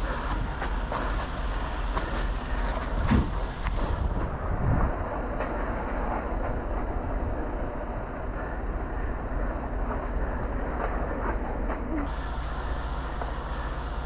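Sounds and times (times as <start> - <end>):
heavy engine rumbling: 0.0 - 14.0.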